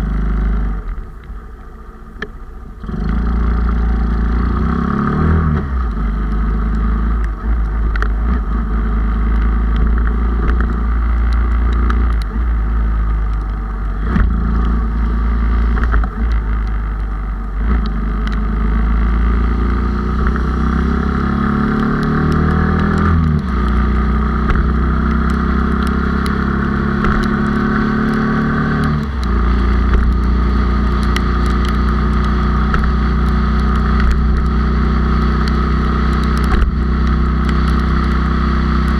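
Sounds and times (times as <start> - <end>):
motorcycle engine running: 2.3 - 38.9.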